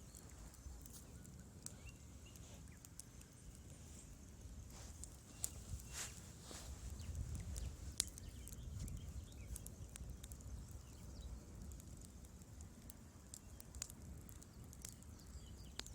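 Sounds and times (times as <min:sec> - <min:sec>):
low rumble of flames: 0:00.0 - 0:15.9
wood fire crackling and popping: 0:00.0 - 0:15.9.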